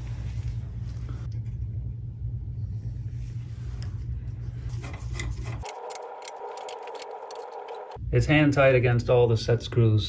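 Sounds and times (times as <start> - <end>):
steady low rumble: 0.0 - 9.5.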